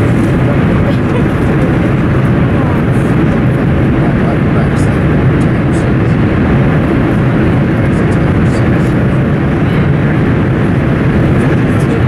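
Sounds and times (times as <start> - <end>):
rushing air: 0.0 - 12.0.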